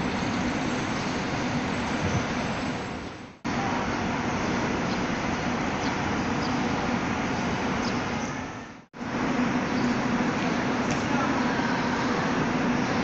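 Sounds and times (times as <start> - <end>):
airliner engine and airflow rushing: 0.0 - 13.0
constant low hum: 0.0 - 13.0.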